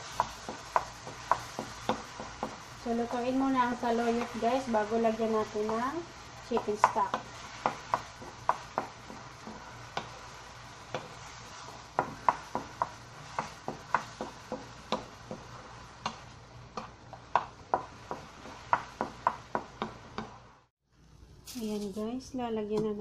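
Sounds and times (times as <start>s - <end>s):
spatula scraping frying pan: 0.0s - 20.5s.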